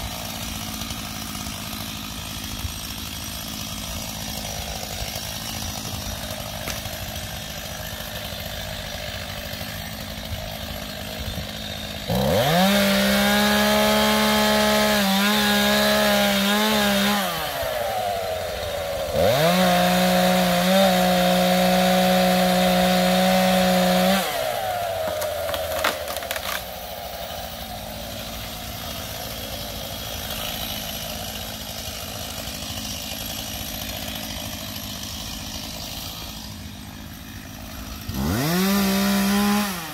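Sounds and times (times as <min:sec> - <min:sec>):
chainsaw cutting tree trunk: 0:00.0 - 0:39.9
chainsaw idling: 0:00.0 - 0:39.9.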